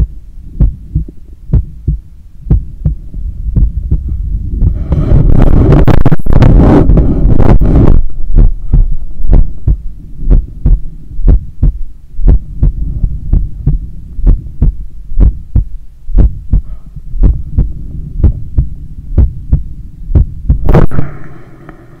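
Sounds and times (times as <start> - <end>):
human heartbeat: 0.0 - 21.1
steady low hum: 0.0 - 22.0.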